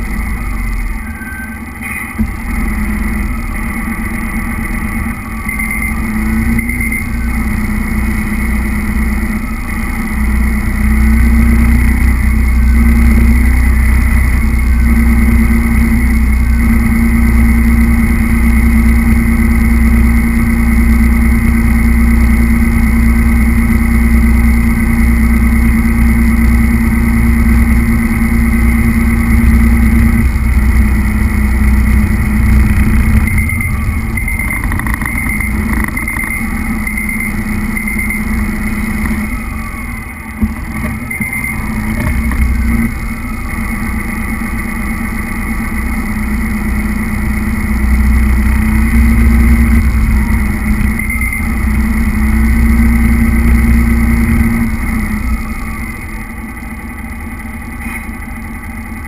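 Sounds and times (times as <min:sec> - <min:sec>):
low rumble: 0:00.0 - 0:57.8.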